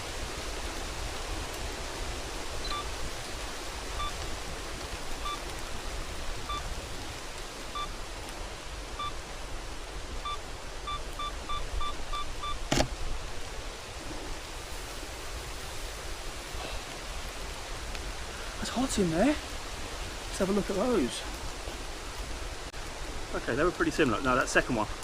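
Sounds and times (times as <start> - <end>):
rain hiss: 0.0 - 25.0.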